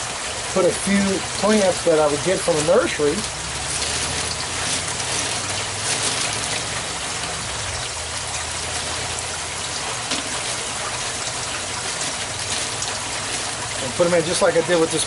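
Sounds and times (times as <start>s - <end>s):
water splashing steadily: 0.0s - 15.0s.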